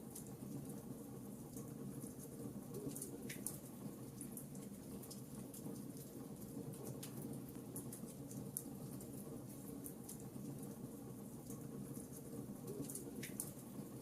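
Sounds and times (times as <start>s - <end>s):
low roar of burning fire: 0.0s - 14.0s.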